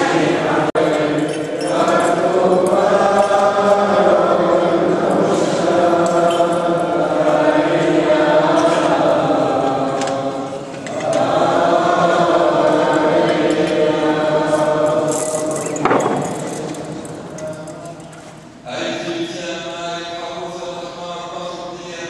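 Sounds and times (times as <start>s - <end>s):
voices chanting together: 0.0s - 17.7s.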